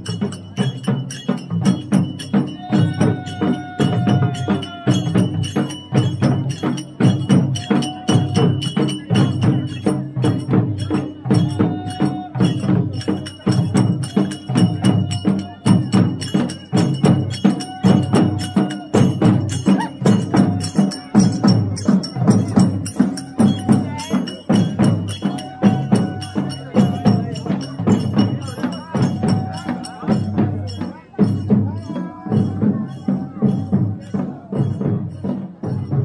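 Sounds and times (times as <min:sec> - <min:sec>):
music with percussion beat: 0:00.0 - 0:36.0.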